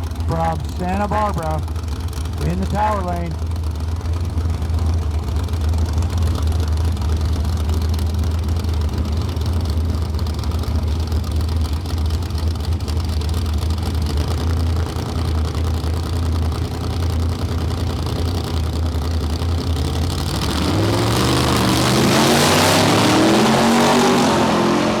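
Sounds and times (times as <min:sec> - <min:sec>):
drag racing engines: 0:00.0 - 0:25.0.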